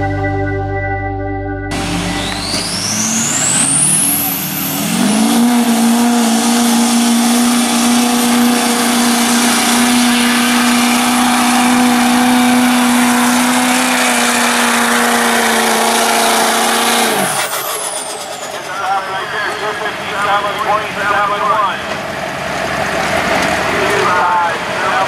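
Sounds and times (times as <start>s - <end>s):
diesel truck engine at full throttle: 1.7s - 25.0s.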